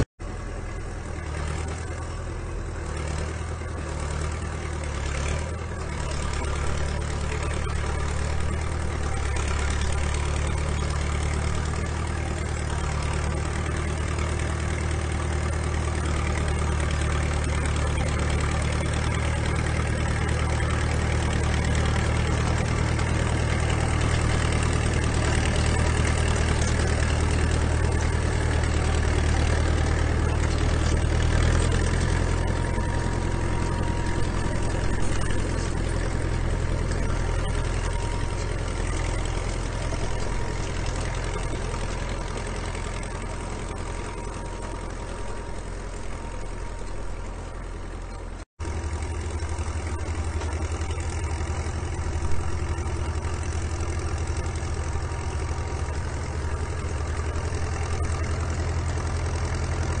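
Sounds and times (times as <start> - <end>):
tractor engine under load: 0.0 - 60.0.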